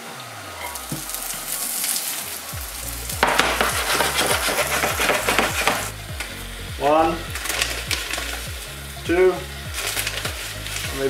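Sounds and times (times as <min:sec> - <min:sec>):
loud frying sizzle: 0:00.0 - 0:11.0
oil sizzling in a frying pan: 0:00.0 - 0:11.0.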